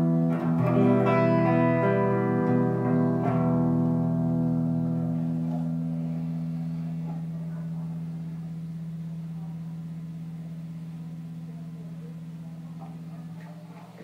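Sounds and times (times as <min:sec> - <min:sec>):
electric guitar chord ringing: 0:00.0 - 0:13.1.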